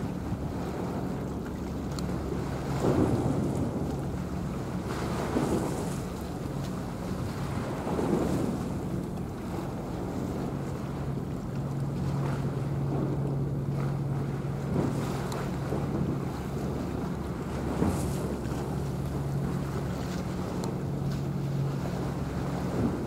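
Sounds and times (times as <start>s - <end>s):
steady low hum: 0.0s - 23.0s
waves washing: 0.0s - 23.0s.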